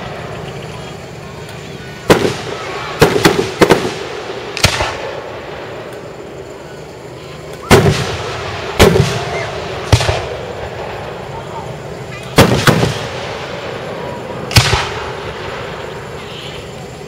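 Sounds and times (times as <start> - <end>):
firework shells booming: 1.9 - 6.4, 7.6 - 16.8.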